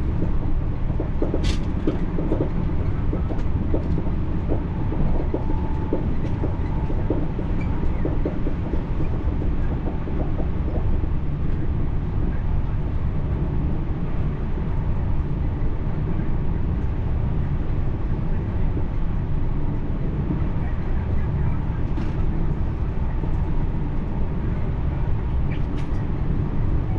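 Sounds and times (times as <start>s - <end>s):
train rumbling along track: 0.0s - 26.9s.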